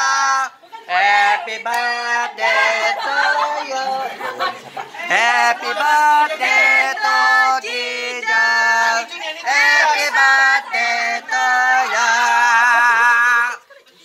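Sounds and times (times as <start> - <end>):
group singing birthday song: 0.0 - 13.9.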